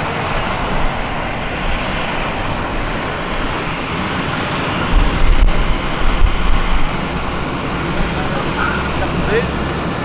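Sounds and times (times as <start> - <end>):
airliner engines running: 0.0 - 10.0.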